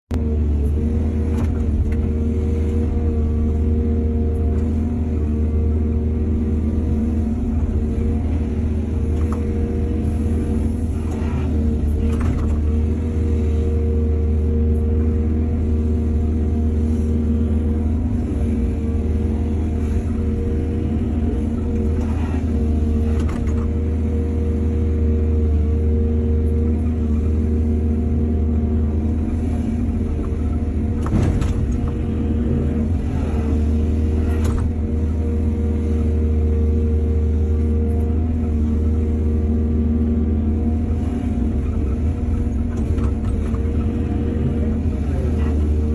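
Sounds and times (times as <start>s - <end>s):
diesel excavator engine drone: 0.1s - 45.9s.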